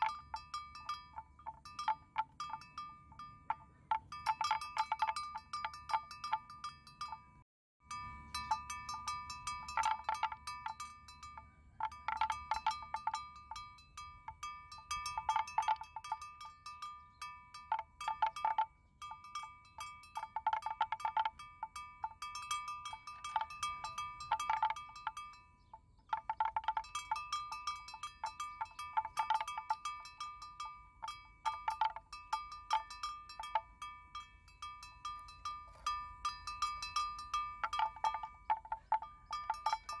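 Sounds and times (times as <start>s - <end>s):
bells clinking and ringing: 0.0s - 40.0s.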